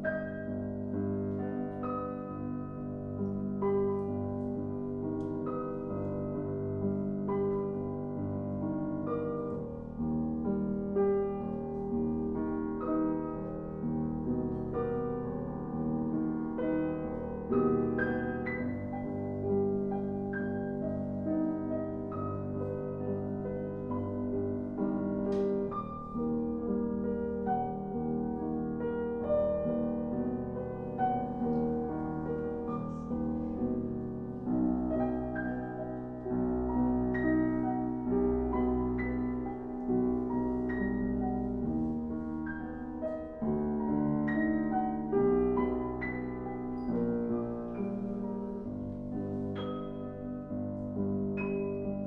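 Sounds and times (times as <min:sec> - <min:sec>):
classical piano music: 0:00.0 - 0:52.0.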